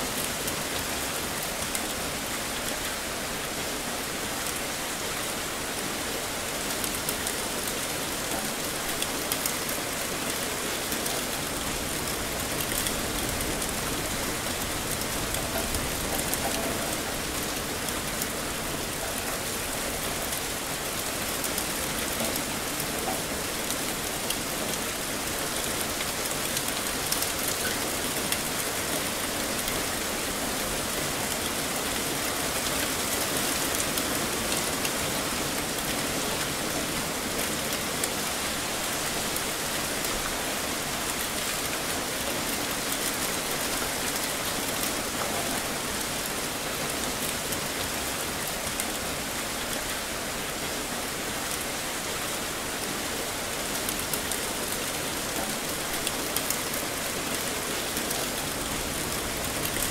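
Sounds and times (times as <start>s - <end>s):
heavy rain hissing: 0.0s - 59.9s
raindrops ticking on surfaces: 0.0s - 59.9s.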